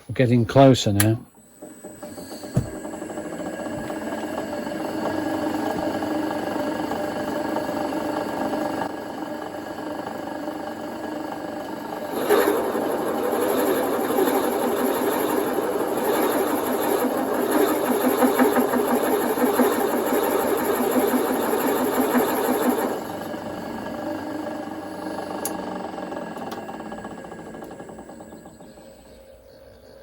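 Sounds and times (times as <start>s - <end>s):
boring machine chattering: 0.5s - 9.0s, 10.8s - 30.0s.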